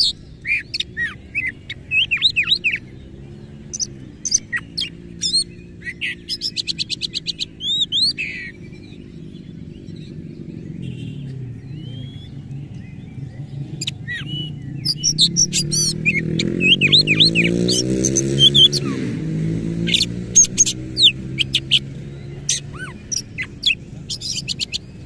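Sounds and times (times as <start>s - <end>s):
bird singing: 0.0s - 25.0s.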